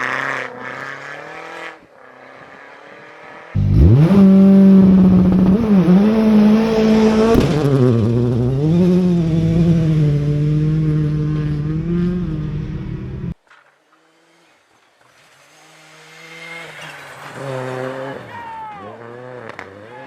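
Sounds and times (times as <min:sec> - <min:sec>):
rally car engine at high revs: 0:00.0 - 0:13.4, 0:15.6 - 0:18.3, 0:19.0 - 0:19.9.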